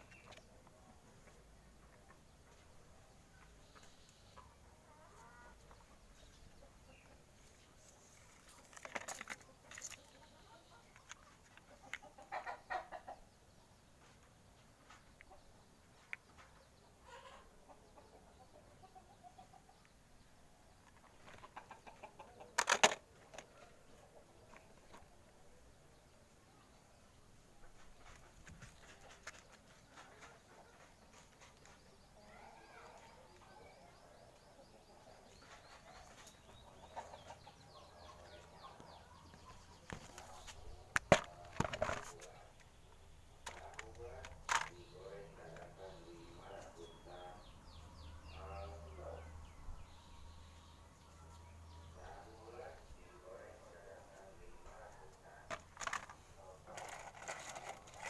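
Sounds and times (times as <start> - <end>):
chickens clucking: 0.0 - 58.0
small birds chirping: 0.0 - 58.0.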